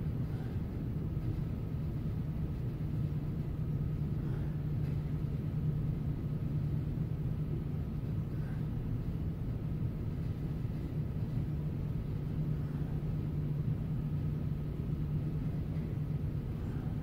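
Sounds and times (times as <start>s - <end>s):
faint hum: 0.0s - 17.0s
low room rumble: 0.0s - 17.0s.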